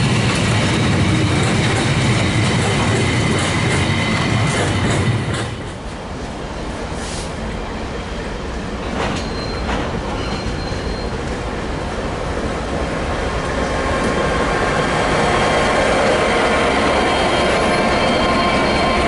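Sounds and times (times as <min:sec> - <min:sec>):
diesel freight train rumbling: 0:00.0 - 0:19.0.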